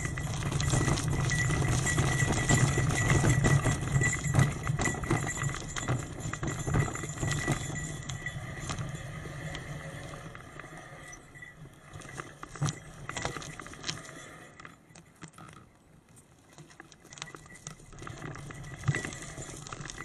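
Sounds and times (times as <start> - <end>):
bicycle rattling over rough track: 0.0 - 20.0.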